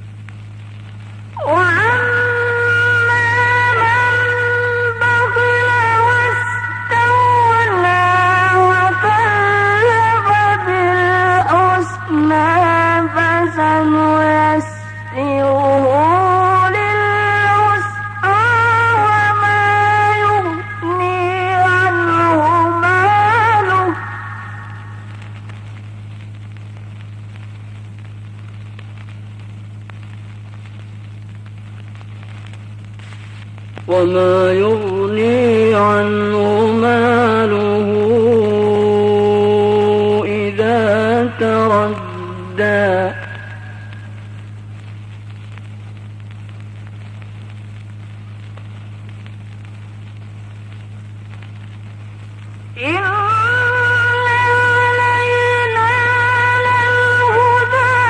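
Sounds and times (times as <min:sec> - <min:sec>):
light crackle and hiss: 0:00.0 - 0:58.0
low electrical hum: 0:00.0 - 0:58.0.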